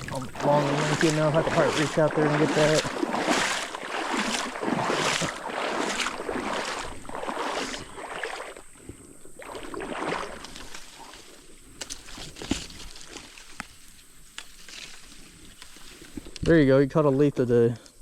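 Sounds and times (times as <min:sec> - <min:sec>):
water swishing around small boat: 0:00.0 - 0:16.5.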